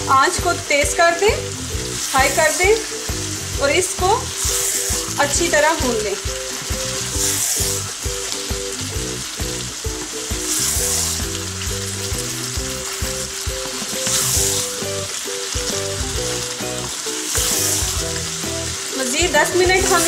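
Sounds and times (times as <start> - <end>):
background music with held notes: 0.0 - 20.0
food sizzling in oil: 0.0 - 20.0
wooden spoon stirring: 1.8 - 8.4, 10.0 - 20.0.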